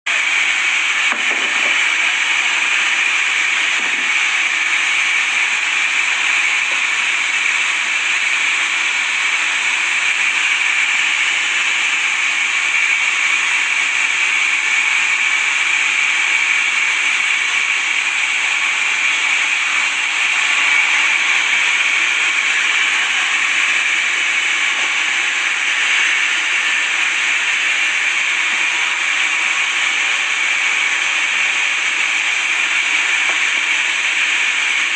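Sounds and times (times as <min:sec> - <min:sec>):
sawmill blade cutting wood: 0:00.1 - 0:34.9.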